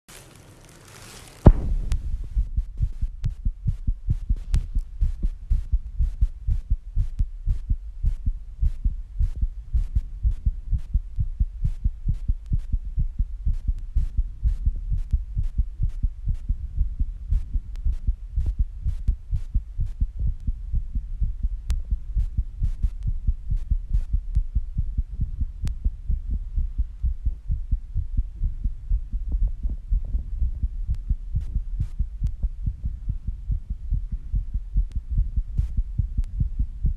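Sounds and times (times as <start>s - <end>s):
fast heartbeat thumps: 1.4s - 36.9s.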